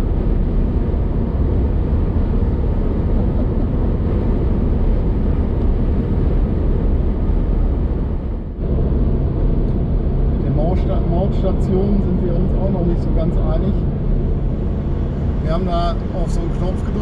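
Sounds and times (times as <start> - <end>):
engine and road noise inside car: 0.0 - 17.0.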